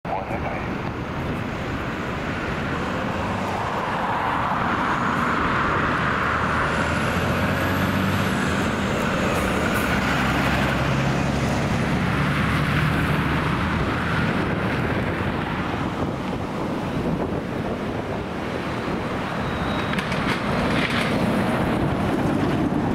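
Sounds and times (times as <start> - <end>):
jet engines rumbling: 0.1 - 22.9
wind on microphone: 0.1 - 22.9.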